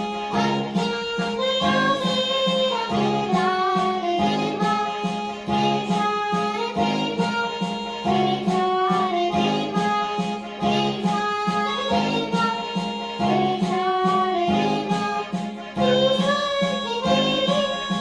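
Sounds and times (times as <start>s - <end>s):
gliding melody: 0.0s - 18.0s.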